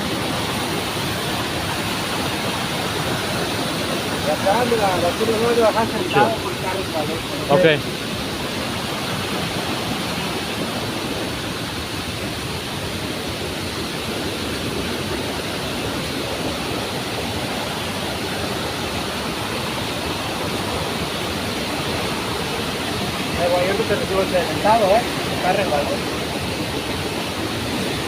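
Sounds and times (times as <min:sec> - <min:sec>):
rushing water cascades: 0:00.0 - 0:28.0.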